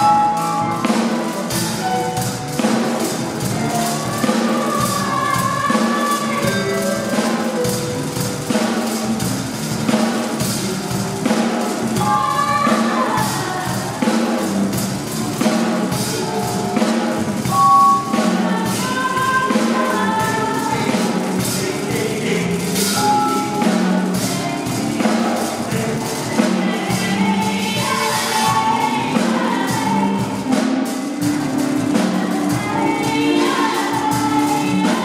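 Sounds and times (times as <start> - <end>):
drum kit and tambourine: 0.0 - 35.0
people singing: 0.0 - 35.0
vibraphone notes: 0.0 - 35.0.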